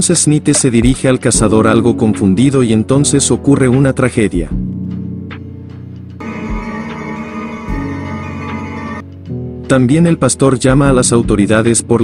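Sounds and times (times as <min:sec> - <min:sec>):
background music with low held tones: 0:00.0 - 0:12.0.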